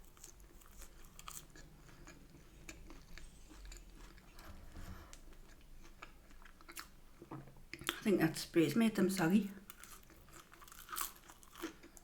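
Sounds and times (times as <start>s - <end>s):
close-up chewing: 0.0s - 8.0s, 9.7s - 12.0s.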